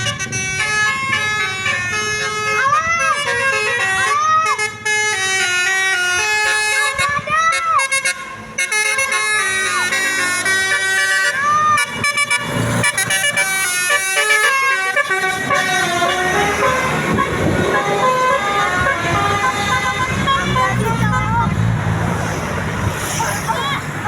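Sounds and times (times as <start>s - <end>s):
bus horn playing a tune: 0.0s - 21.6s.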